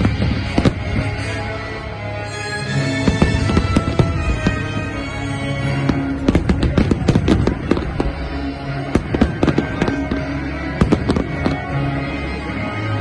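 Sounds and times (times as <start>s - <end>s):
fireworks bursting: 0.0s - 12.0s
music playing: 0.0s - 13.0s.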